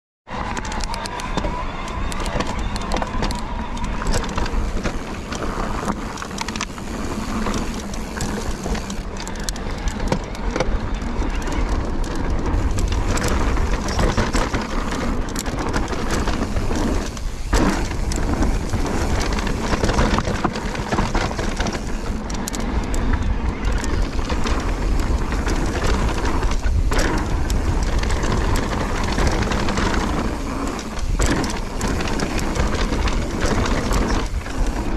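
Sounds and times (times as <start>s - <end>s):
bike clicking and rattling: 0.3s - 34.9s
bike tyres rumbling over dirt: 0.3s - 34.9s
wind noise on microphone: 0.4s - 34.9s.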